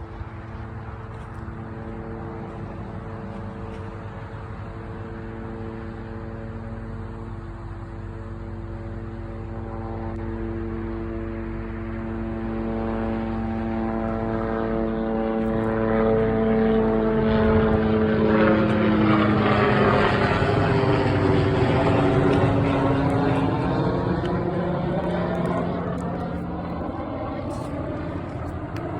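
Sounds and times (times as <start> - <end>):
aircraft engine drone: 0.0 - 28.9.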